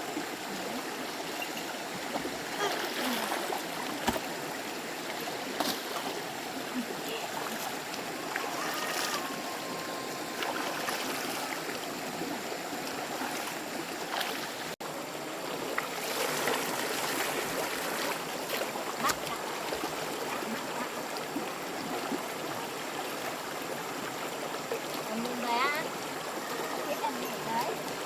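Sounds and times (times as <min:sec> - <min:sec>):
running water flowing: 0:00.0 - 0:28.0.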